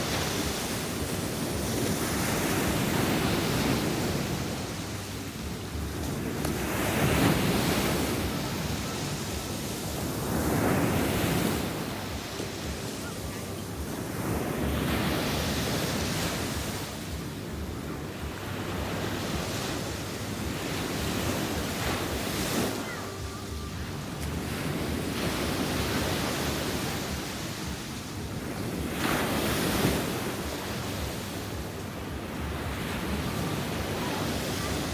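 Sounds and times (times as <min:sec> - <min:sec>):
sea waves breaking on shore: 0:00.0 - 0:34.9
wind on microphone: 0:00.0 - 0:34.9.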